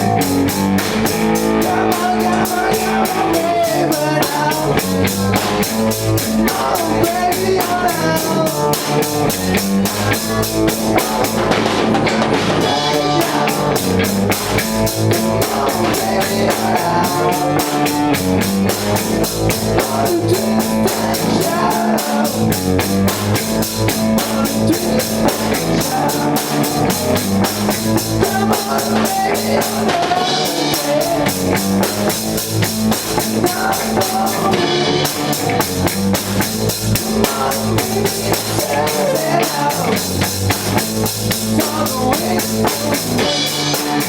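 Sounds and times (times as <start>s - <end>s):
drum kit fast beat: 0.0s - 44.0s
electric guitar: 0.0s - 44.0s.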